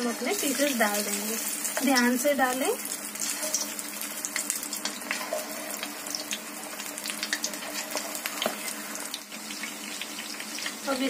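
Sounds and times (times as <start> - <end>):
chicken deep-frying in oil: 0.0 - 11.0
small crackles of frying: 0.0 - 11.0.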